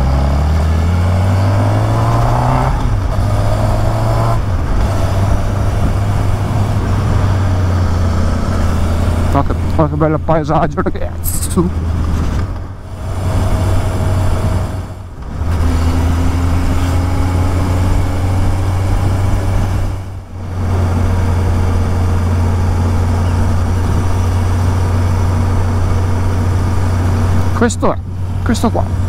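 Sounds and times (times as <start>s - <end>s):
motorcycle engine droning: 0.0s - 29.0s.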